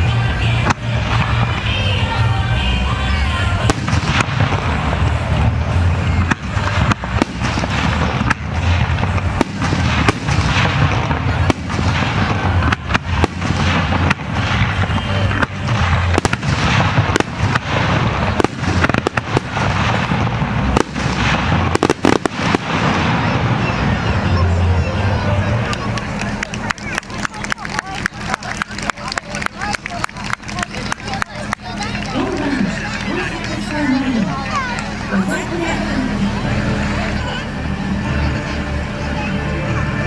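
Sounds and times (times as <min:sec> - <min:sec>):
fireworks launching and bursting: 0:00.0 - 0:37.0
fireworks crackling: 0:00.0 - 0:40.0.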